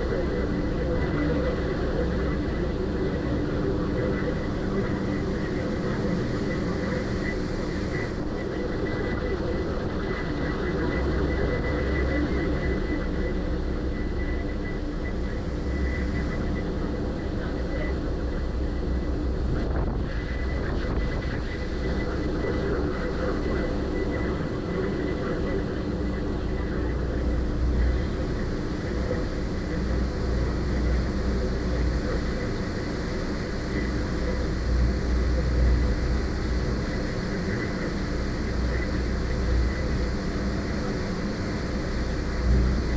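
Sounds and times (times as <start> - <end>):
ferry engines droning: 0.0 - 42.9.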